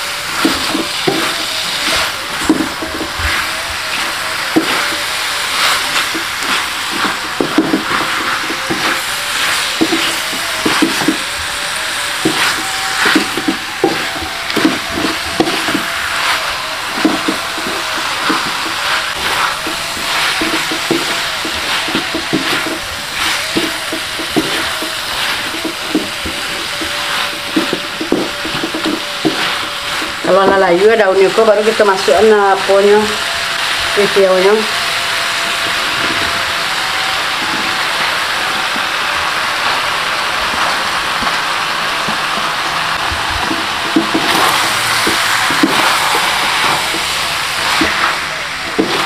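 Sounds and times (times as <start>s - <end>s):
food sizzling: 0.0s - 49.0s
wooden spatula scraping a wok: 0.0s - 49.0s.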